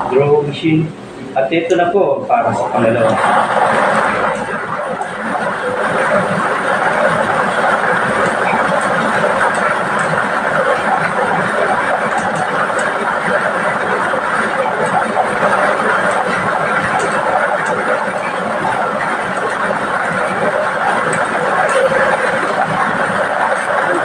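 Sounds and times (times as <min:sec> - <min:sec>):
blower rushing: 0:00.0 - 0:24.0.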